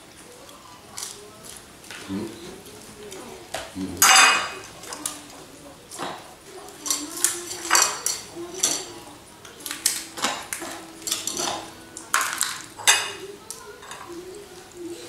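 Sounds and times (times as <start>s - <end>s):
plates and dishes clinking: 0.0s - 15.0s.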